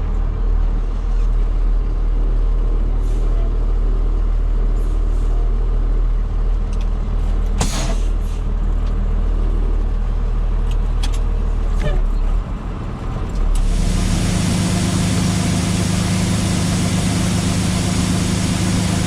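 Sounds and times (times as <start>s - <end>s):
farm machinery diesel engine: 0.0s - 19.0s.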